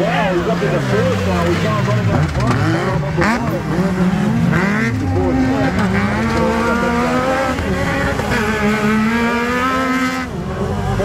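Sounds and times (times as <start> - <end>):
off-road vehicle engines revving: 0.0 - 11.0.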